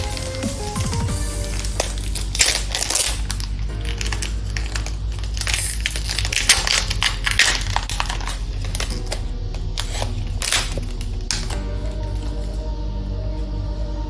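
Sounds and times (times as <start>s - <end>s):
foil pack crinkling: 0.0s - 12.6s.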